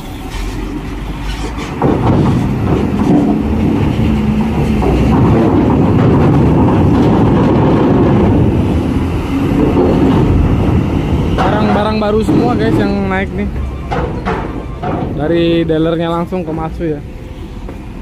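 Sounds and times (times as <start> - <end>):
diesel truck engine under load: 0.0 - 18.0.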